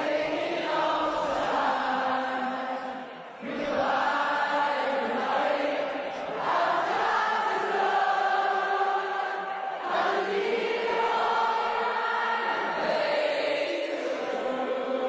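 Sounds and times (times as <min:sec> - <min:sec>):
crowd singing in unison: 0:00.0 - 0:15.0.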